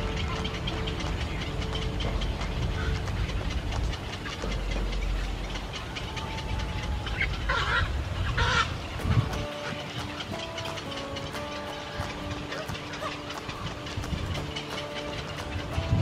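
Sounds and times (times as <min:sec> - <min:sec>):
herons squawking: 0:00.0 - 0:16.0.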